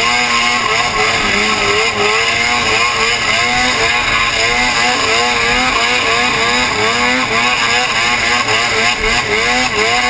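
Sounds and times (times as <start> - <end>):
snowmobile engine at high revs: 0.0 - 10.0.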